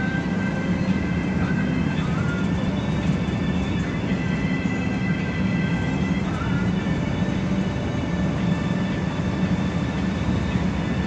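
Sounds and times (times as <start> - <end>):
bus engine drone and road noise: 0.0 - 11.0
faint music: 0.0 - 11.0.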